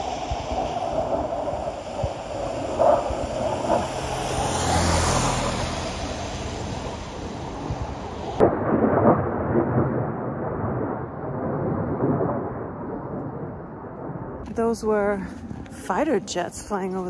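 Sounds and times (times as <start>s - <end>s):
fighter jets roaring overhead: 0.0s - 17.0s.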